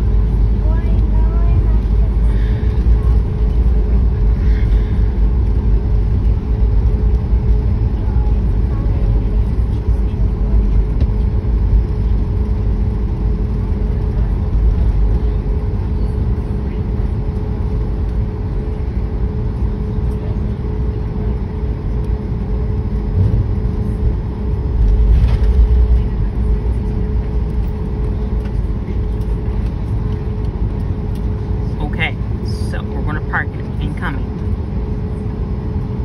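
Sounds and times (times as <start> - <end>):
constant hum: 0.0 - 36.0
jet engine rumble in cabin: 0.0 - 36.0.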